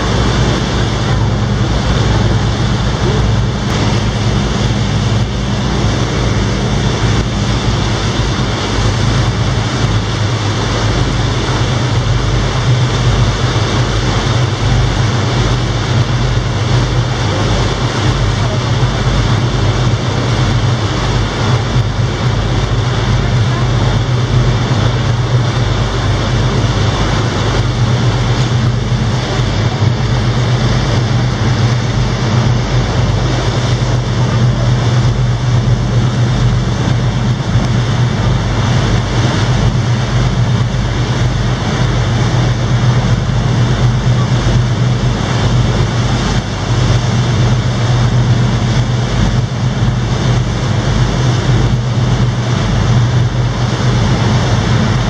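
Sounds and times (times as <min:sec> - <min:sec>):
boat engine humming: 0:00.0 - 0:55.0
water rushing along hull: 0:00.0 - 0:55.0.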